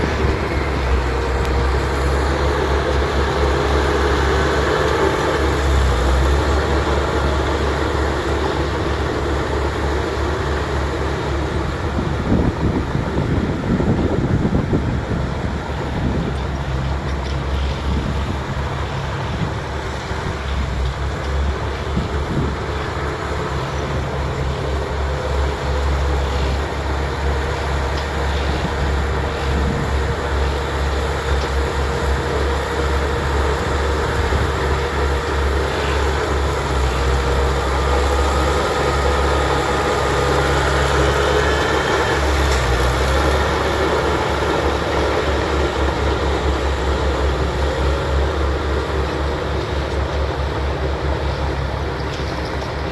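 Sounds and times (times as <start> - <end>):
bulldozer diesel engine rumbling: 0.0 - 52.9.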